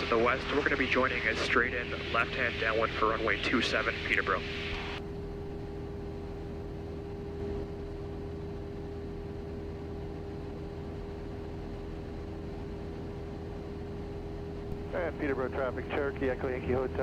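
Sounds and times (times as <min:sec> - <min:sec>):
airplane engine droning in cockpit: 0:00.0 - 0:17.0.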